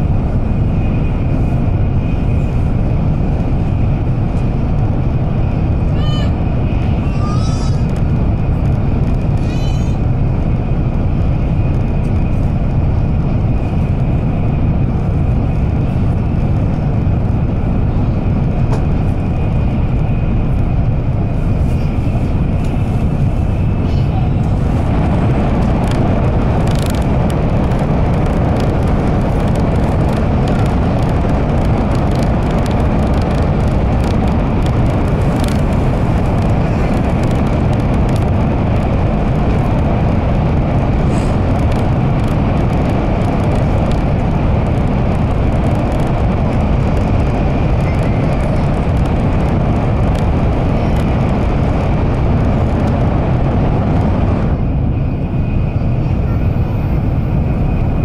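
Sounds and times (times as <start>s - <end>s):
train wheels and rushing air: 0.0s - 58.0s.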